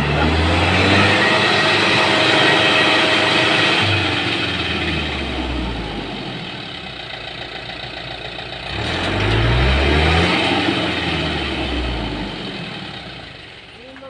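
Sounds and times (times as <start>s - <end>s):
truck diesel engine revving: 0.0s - 14.0s.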